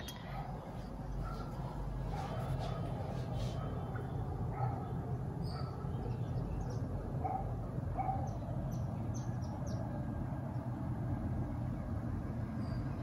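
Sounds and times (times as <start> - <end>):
birds chirping: 0.0 - 10.8
steady low rumble: 0.0 - 13.0.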